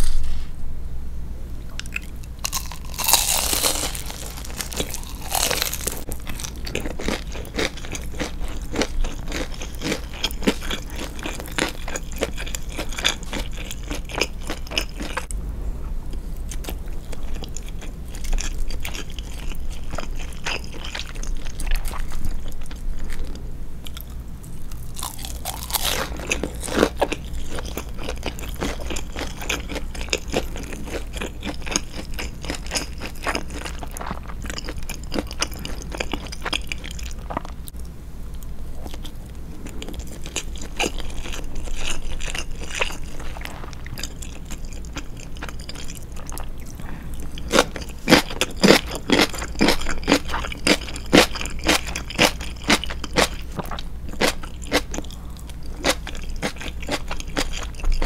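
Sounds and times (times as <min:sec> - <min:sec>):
crunching and chewing fried food: 0:01.8 - 0:15.3, 0:16.4 - 0:58.0.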